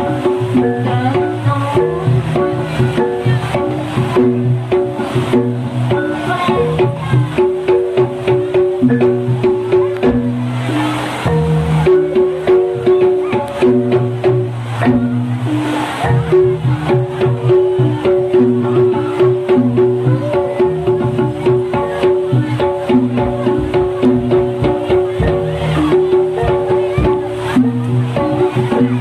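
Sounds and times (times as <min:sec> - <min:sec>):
pitched percussion notes looping: 0:00.0 - 0:29.0
rapid drum strokes: 0:00.0 - 0:29.0.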